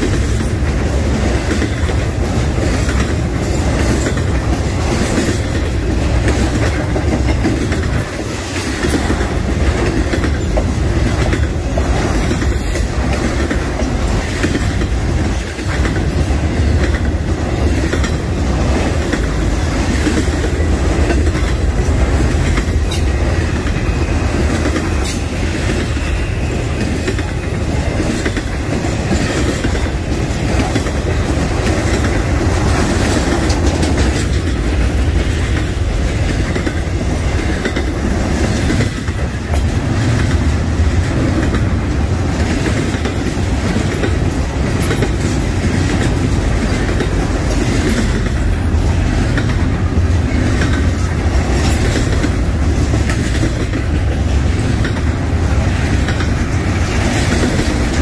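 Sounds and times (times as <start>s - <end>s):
freight train rumbling past: 0.0s - 58.0s
wheels clicking over rail joints: 0.0s - 58.0s.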